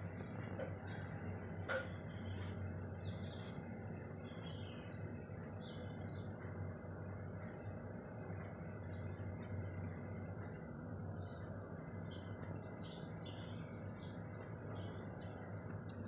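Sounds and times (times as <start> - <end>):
faint hum: 0.0 - 16.0
small birds chirping: 0.0 - 16.0.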